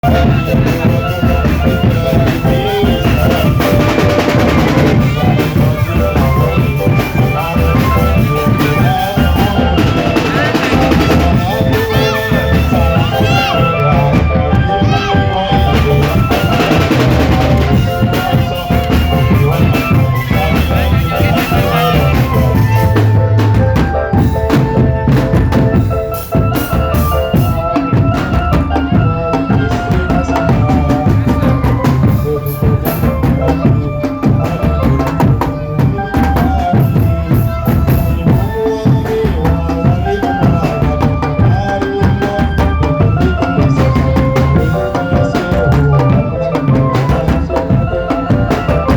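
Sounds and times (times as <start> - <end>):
snare and bass drums beating: 0.0 - 48.9.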